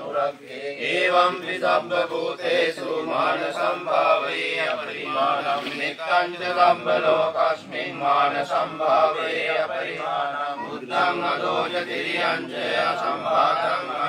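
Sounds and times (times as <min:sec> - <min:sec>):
chanting recitation: 0:00.0 - 0:14.0.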